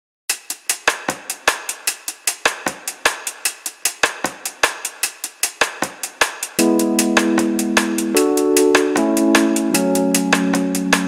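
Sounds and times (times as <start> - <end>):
drum kit playing steady beat: 0.3 - 11.0.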